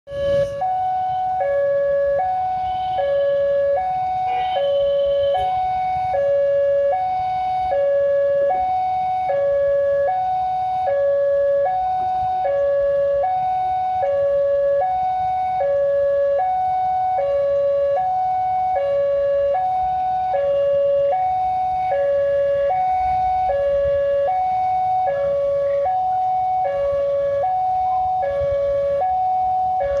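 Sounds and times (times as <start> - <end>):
low rumble of traffic: 0.1 - 30.0
two-tone crossing alarm: 0.1 - 30.0.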